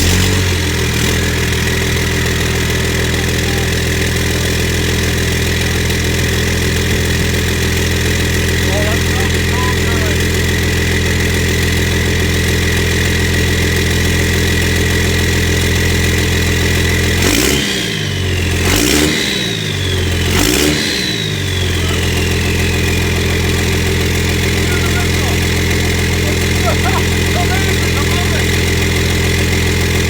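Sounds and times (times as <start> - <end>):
diesel truck engine idling: 0.0 - 30.0
engine revving: 0.0 - 30.0.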